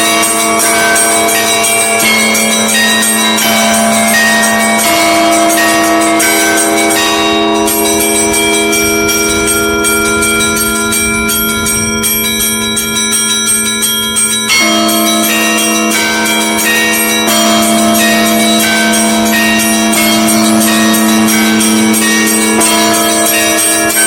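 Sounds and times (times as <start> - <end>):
deep bell ringing: 0.0 - 24.0
small church bells pealing rapidly: 0.0 - 24.0.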